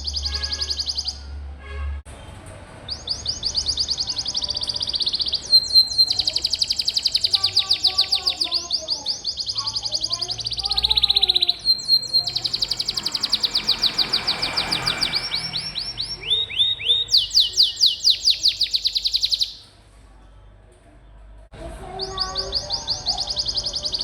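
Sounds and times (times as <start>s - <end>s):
canary singing trills: 0.0s - 1.4s, 2.9s - 19.7s, 21.8s - 24.0s.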